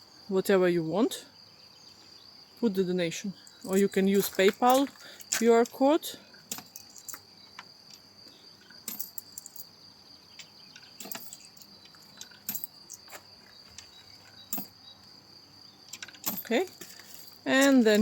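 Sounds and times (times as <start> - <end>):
high-pitched insect chirring: 1.4 - 18.0.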